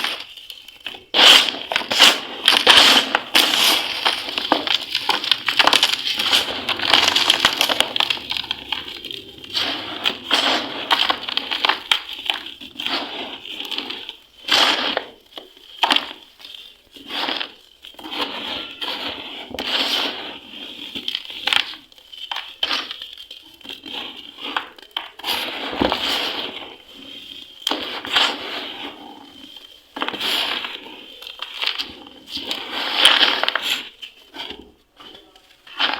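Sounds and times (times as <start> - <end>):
dry cement crunching: 0.0 - 35.9.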